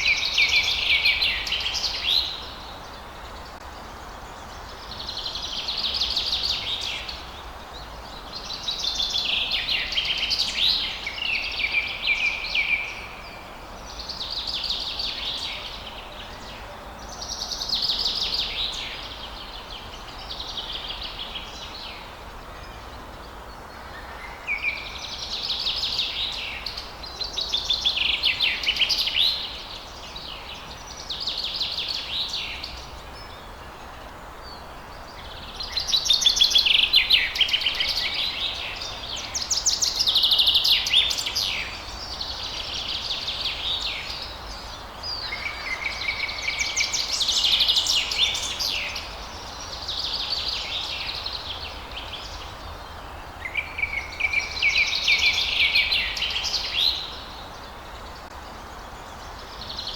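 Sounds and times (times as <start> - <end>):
faint steady hiss: 0.0 - 59.9
songbirds singing: 0.0 - 59.9.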